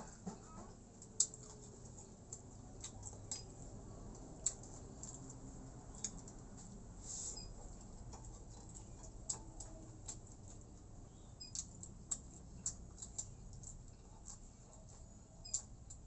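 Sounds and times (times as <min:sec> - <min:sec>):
person chewing: 0:01.0 - 0:16.0.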